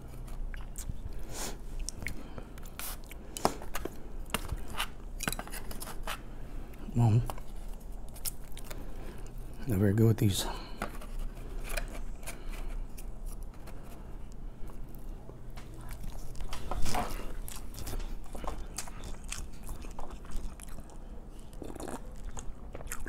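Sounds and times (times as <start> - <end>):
chewing and biting: 0.0 - 1.0, 1.8 - 9.6, 10.9 - 23.0.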